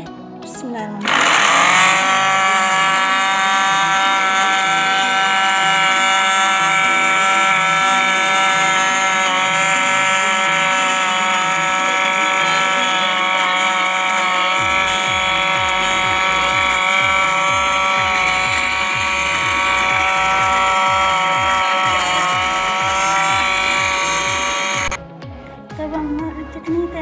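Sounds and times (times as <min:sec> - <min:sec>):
electric blender motor whining: 0:01.0 - 0:25.0.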